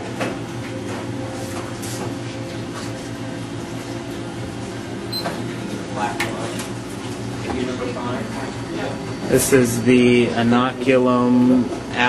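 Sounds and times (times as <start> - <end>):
mechanical hum of equipment: 0.0 - 12.0.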